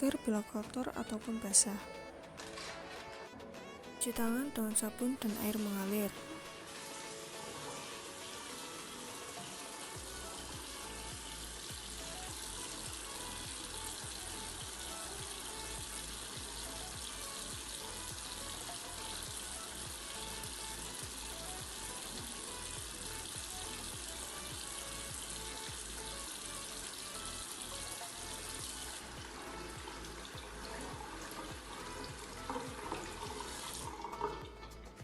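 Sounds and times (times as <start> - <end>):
soft background music: 0.0 - 35.0
tap water running into sink: 5.2 - 34.6.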